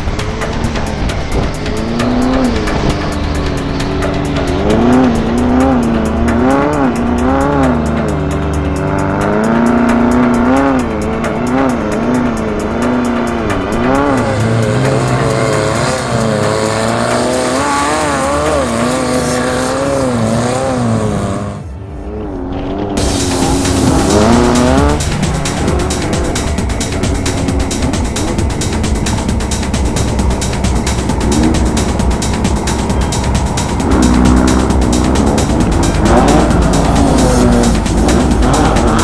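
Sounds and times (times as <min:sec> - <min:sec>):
fast even ticking: 0:00.0 - 0:21.1, 0:23.0 - 0:39.0
race car engine revving: 0:00.0 - 0:39.0.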